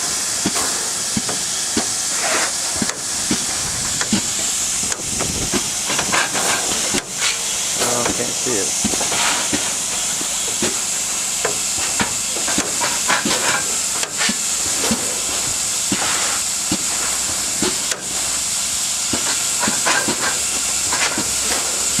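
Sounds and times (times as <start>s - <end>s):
steam locomotive hissing: 0.0s - 22.0s
shovel scraping coal: 0.6s - 18.1s, 19.1s - 22.0s.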